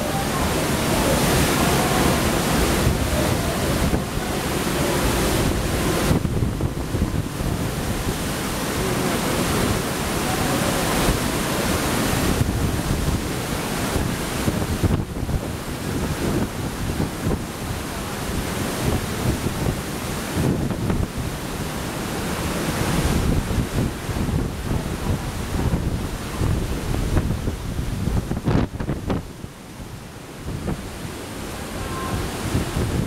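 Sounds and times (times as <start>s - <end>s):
falling rain: 0.0s - 33.0s
wind buffeting microphone: 0.0s - 33.0s.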